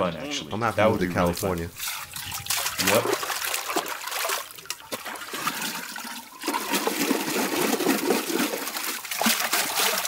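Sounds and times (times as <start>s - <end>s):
water sloshing in a metal basin: 1.0s - 10.0s.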